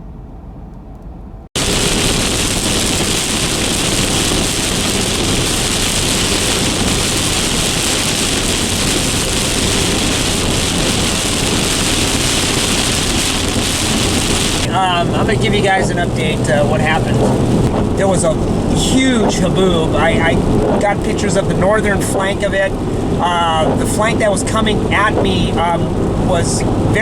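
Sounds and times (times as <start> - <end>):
heavy rain pounding on vehicle: 1.6 - 27.0.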